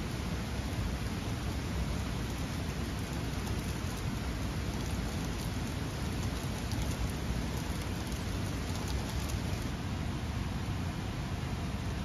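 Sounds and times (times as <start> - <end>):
stream and waterfall rushing: 0.0 - 12.0.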